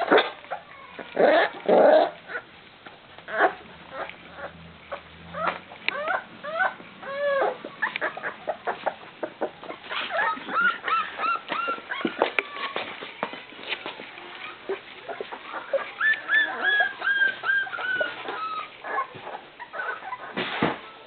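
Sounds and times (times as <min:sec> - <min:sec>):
puppies whining: 0:00.0 - 0:02.6, 0:03.2 - 0:21.0.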